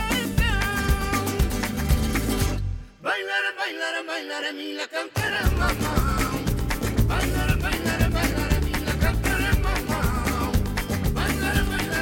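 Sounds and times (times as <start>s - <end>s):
person singing: 0.0s - 1.7s, 3.0s - 12.0s
rumba band with strummed beat: 0.0s - 2.9s, 5.2s - 12.0s.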